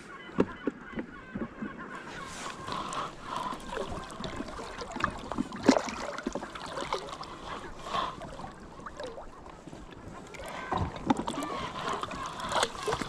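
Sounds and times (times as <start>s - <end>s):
water sloshing and splashing: 0.3s - 13.0s.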